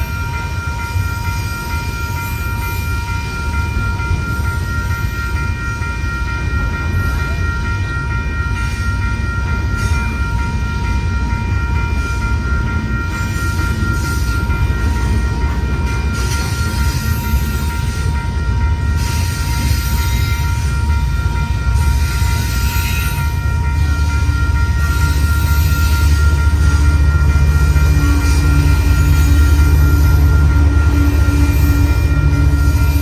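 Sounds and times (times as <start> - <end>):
crossing bell ringing: 0.0 - 33.0
freight train rumbling: 0.0 - 33.0.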